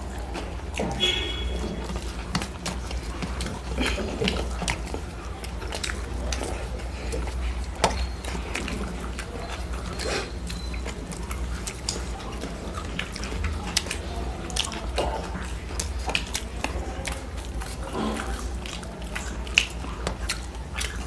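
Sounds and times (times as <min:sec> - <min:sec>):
people chewing: 0:00.0 - 0:21.0.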